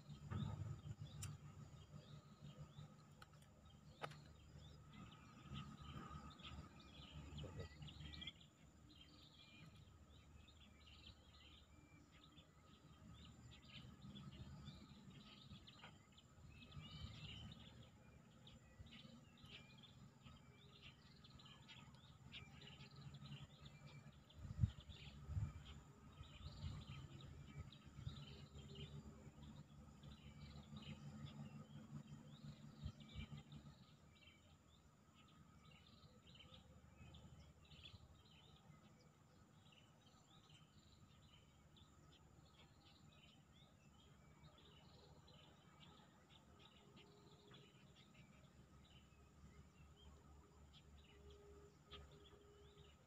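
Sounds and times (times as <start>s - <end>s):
low outdoor rumble: 0.0s - 53.0s
small birds chirping: 0.0s - 53.0s.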